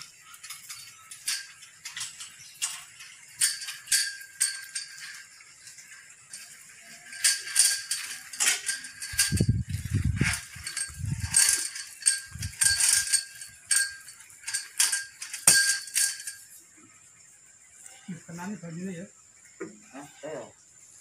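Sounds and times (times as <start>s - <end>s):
metallic clinks and clangs: 0.0s - 18.7s.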